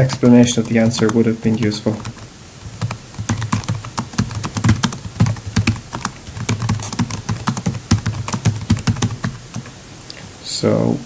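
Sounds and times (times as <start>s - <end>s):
typing on computer keyboard: 0.0s - 9.7s.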